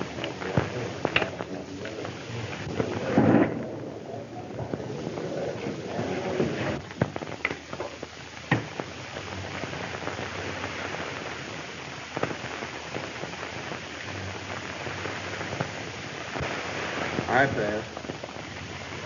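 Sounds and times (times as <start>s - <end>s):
film soundtrack hiss and crackle: 0.0s - 19.0s.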